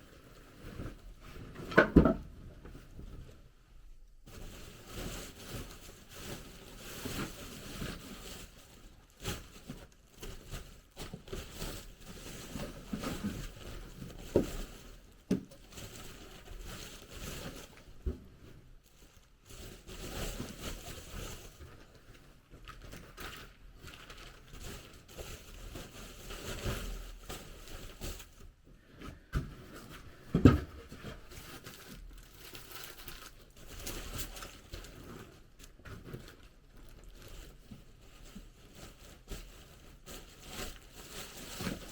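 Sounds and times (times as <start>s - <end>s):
rustling and crinkling: 0.0s - 41.9s.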